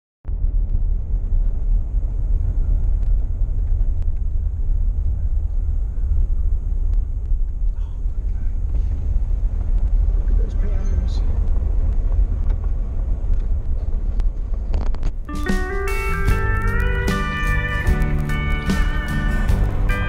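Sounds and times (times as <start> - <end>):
vehicle road and engine rumble: 0.3 - 20.0.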